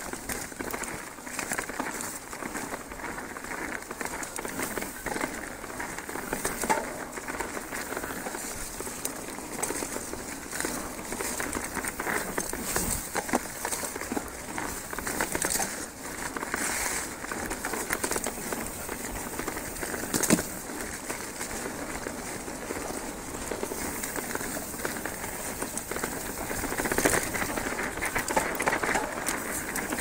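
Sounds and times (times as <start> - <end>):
bike shaking over ground: 0.0 - 30.0
bike tyres crackling over dry leaves: 0.0 - 30.0.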